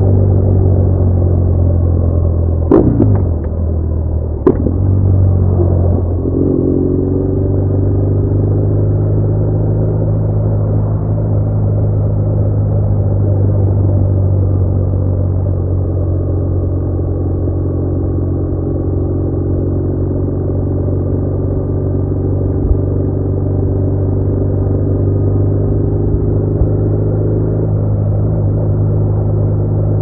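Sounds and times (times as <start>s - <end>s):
motorcycle engine droning: 0.0s - 30.0s
road and wind noise: 0.0s - 30.0s.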